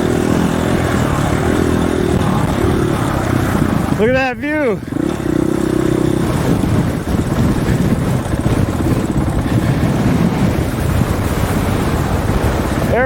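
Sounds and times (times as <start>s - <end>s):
dirt bike engine running: 0.0s - 13.0s
wind buffeting microphone: 0.0s - 13.0s.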